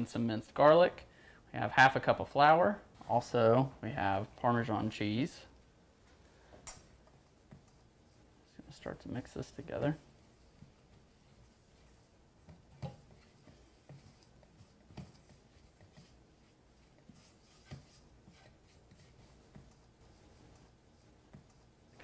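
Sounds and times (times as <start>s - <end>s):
faint rustling of mixing by hand: 1.8s - 22.0s.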